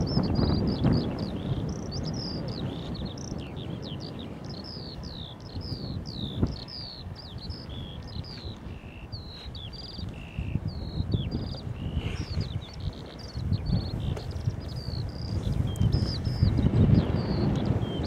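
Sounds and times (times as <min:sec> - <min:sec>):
songbird chirping: 0:00.0 - 0:18.0
wind rumble on microphone: 0:00.0 - 0:18.0.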